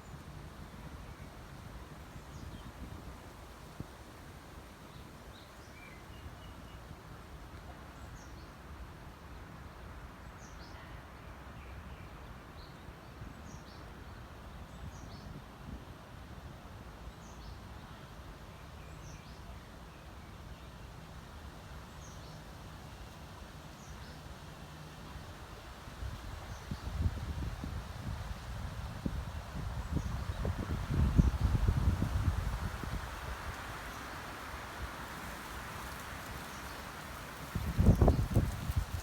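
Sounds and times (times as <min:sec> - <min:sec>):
wind with low rumble: 0:00.0 - 0:39.0.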